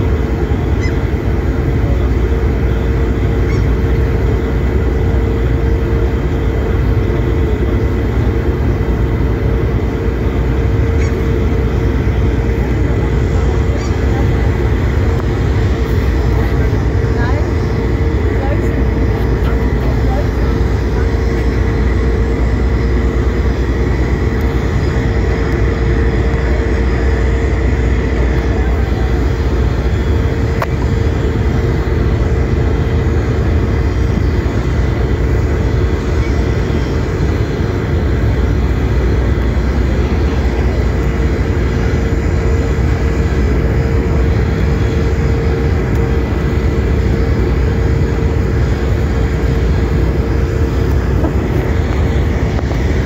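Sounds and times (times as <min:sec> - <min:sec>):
ship engine rumbling: 0:00.0 - 0:53.0.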